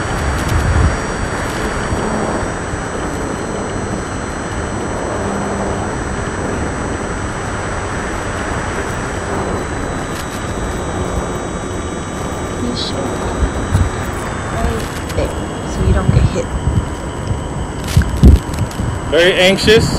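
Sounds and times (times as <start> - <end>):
rushing airflow: 0.0 - 19.7
faint high motor whine: 0.0 - 19.9.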